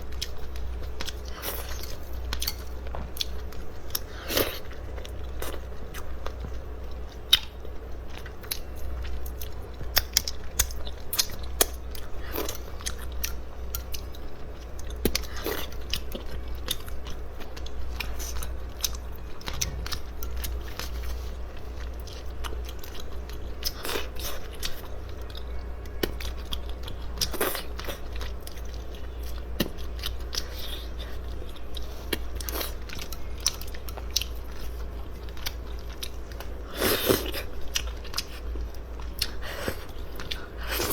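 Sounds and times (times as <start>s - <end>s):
person chewing crunchy food: 0.0s - 40.9s
steady low hum: 0.0s - 40.9s.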